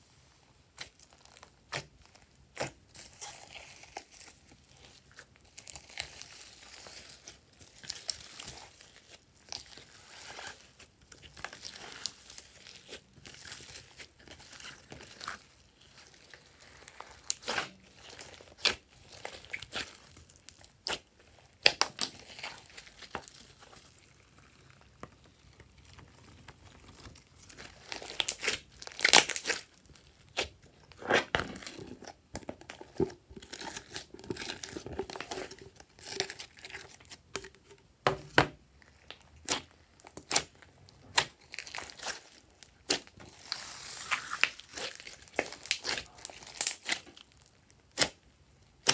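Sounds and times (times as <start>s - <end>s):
slime crackling and popping: 0.8s - 37.8s, 38.8s - 48.9s.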